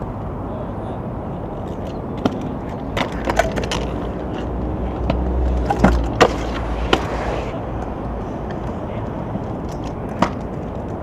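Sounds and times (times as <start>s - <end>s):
scooter wheels rolling on concrete: 0.0s - 11.0s
scooter deck clacking on ground: 1.6s - 11.0s
scooter deck grinding on concrete: 1.6s - 11.0s.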